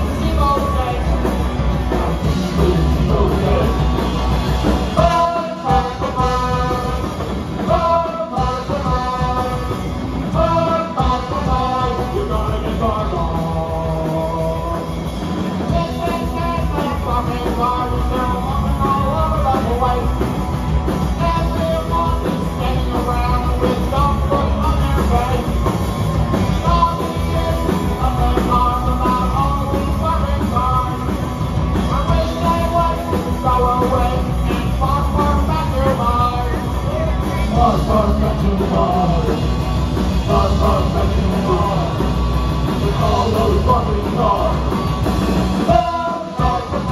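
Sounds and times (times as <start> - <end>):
person singing: 0.0 - 4.0, 4.9 - 15.0, 15.6 - 20.4, 21.1 - 25.7, 26.5 - 44.9, 45.6 - 46.9
punk rock band playing live: 0.0 - 46.9.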